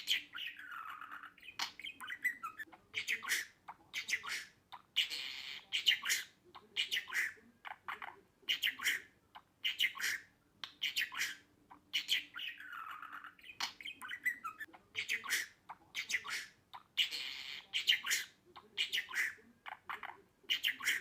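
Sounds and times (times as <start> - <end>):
budgerigar chirping: 0.0 - 21.0.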